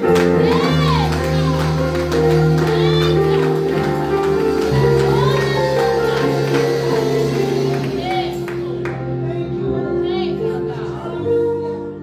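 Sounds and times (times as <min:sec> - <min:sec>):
keyboard held chords: 0:00.0 - 0:12.0
voices singing or calling out: 0:00.0 - 0:12.0.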